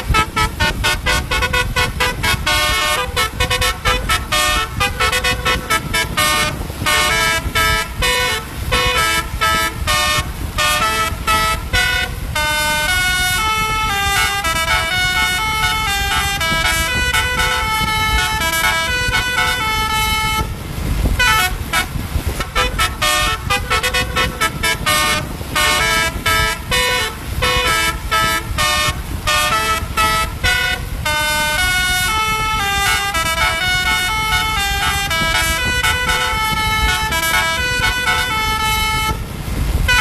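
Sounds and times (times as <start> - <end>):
multi-tone bus horns playing a tune: 0.0 - 40.0.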